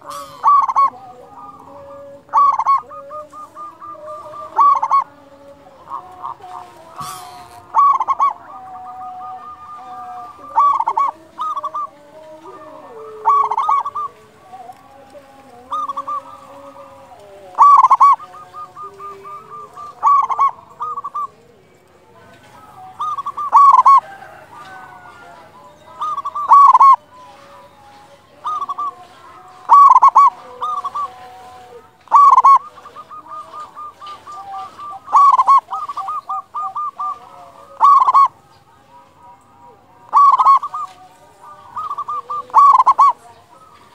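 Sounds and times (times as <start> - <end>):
fainter lower cooing: 0.0 - 21.6, 22.4 - 38.4, 39.6 - 43.9
dove cooing: 0.0 - 43.9.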